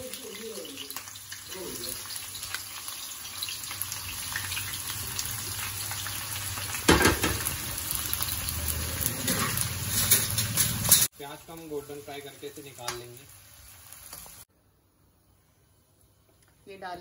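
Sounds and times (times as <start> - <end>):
onions sizzling in hot oil: 0.0 - 14.5.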